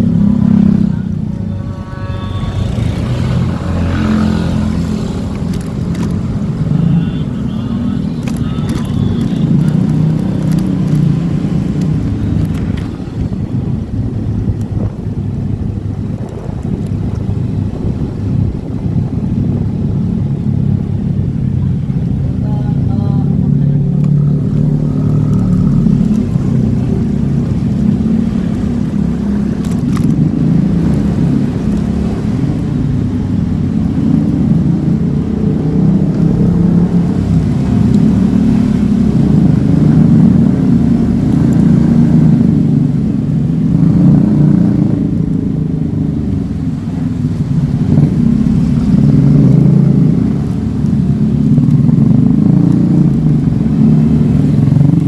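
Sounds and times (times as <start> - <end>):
motorcycle engine rumble: 0.0 - 55.0
road noise: 0.0 - 55.0.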